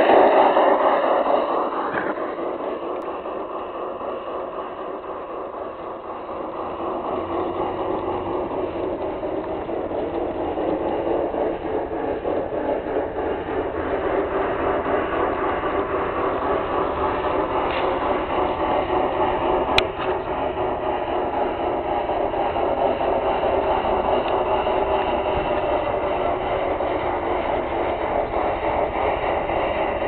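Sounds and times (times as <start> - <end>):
model train running on track: 0.0 - 30.0.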